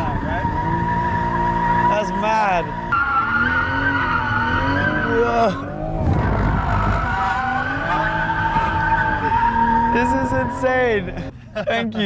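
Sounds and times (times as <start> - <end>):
car engine revving: 0.0 - 11.1.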